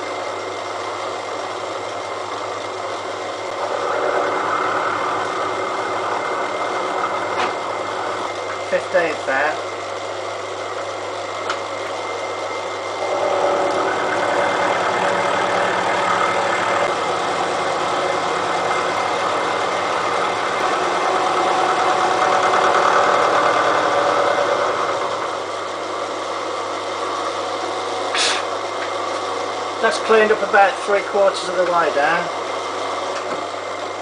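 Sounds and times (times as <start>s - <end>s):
milling machine running: 0.0s - 34.0s.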